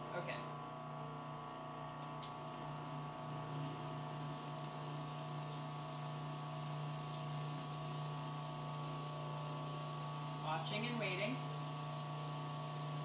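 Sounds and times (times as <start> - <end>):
food processor motor humming: 0.8 - 13.0.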